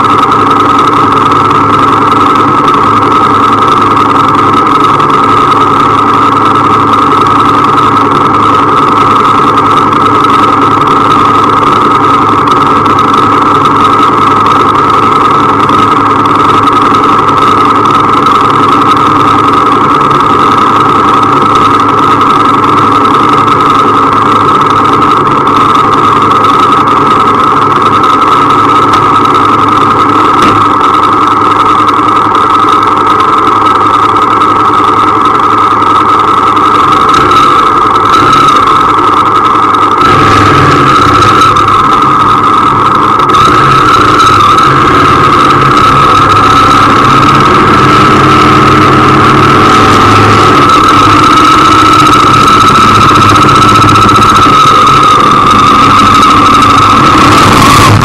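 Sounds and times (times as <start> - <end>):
motorcycle engines idling: 0.0 - 58.0
motorcycle pulling away: 0.0 - 58.0.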